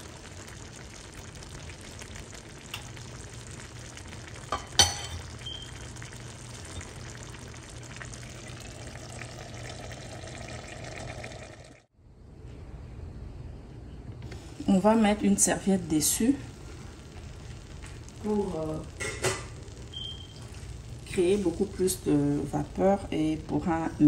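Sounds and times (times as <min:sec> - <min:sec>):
pot of broth simmering: 0:00.0 - 0:11.9, 0:14.4 - 0:24.0.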